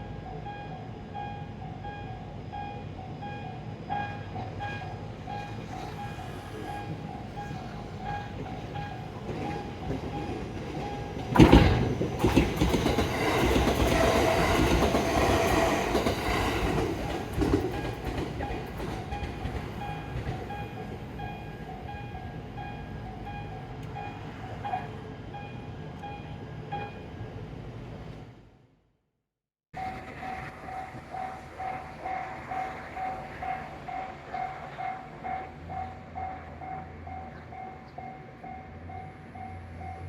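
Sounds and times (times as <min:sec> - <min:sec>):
train rumbling and rattling: 0:00.0 - 0:28.5, 0:29.8 - 0:40.0.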